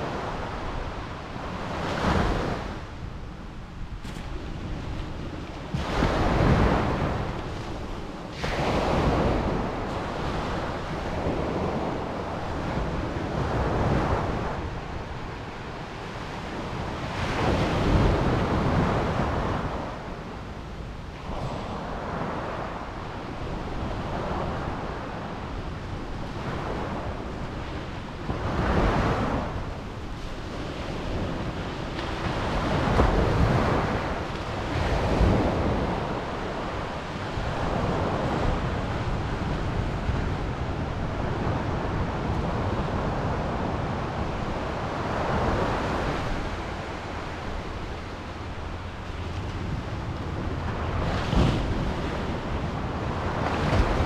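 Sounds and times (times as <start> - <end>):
ocean surf washing over rock: 0.0 - 54.0.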